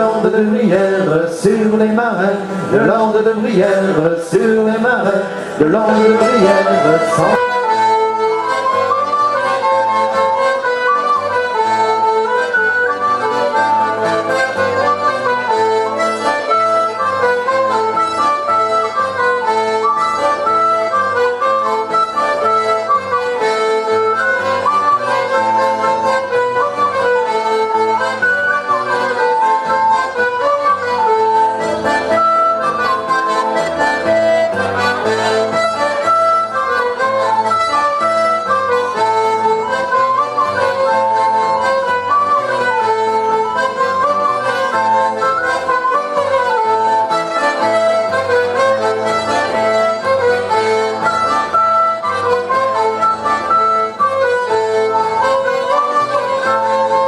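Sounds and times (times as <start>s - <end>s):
accordion: 0.0s - 57.0s
fiddle: 0.0s - 57.0s
guitar: 0.0s - 57.0s
small wind instrument: 1.7s - 57.0s.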